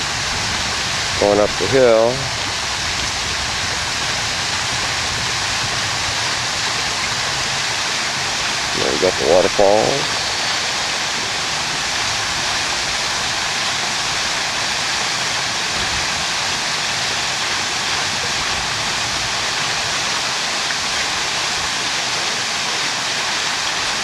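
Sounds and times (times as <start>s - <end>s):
waterfall splashing into pool: 0.0s - 24.0s.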